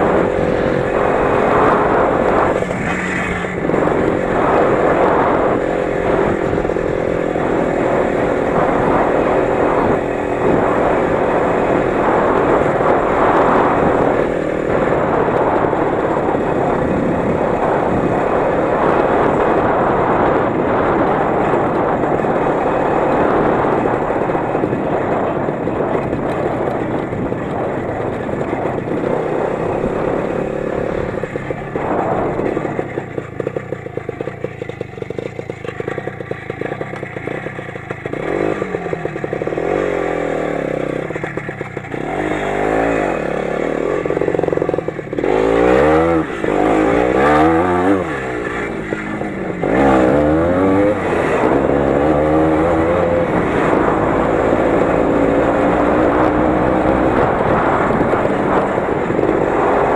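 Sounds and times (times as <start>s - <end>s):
tractor engine revving: 0.0s - 59.9s.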